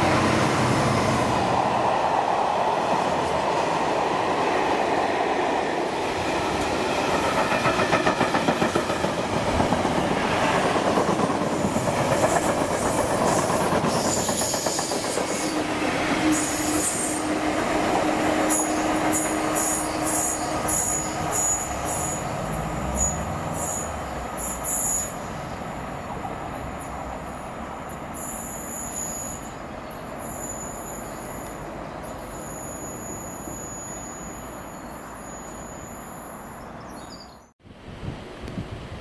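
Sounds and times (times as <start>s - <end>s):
train rushing noise: 0.0s - 33.7s
diesel locomotive engine: 0.0s - 36.8s.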